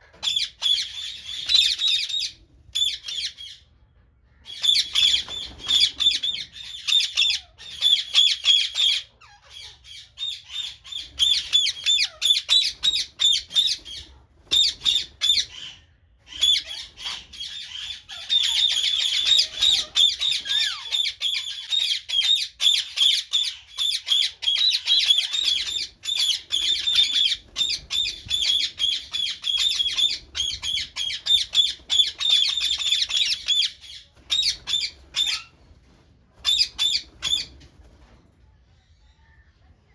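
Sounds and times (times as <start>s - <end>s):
small birds squawking and chirping: 0.0s - 35.7s, 36.4s - 37.8s.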